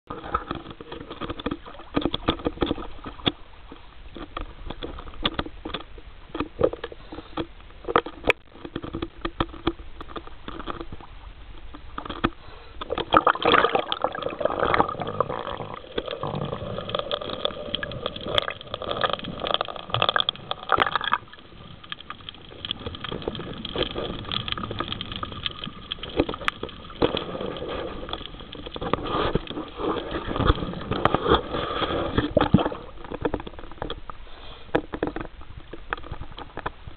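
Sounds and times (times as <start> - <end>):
sharp clicks and crackles: 0.1 - 36.9
water sloshing and gurgling: 0.1 - 36.9.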